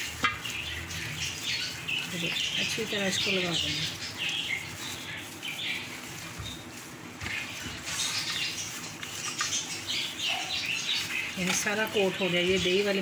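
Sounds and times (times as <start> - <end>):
birds chirping: 0.0 - 13.0
wet squelching of marinade: 0.0 - 13.0.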